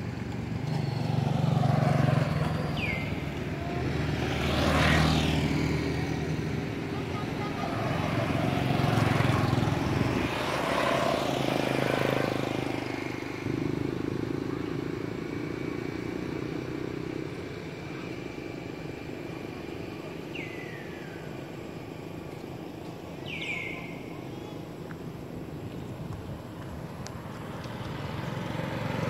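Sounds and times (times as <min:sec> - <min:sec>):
vehicle passing on road: 0:00.0 - 0:29.0.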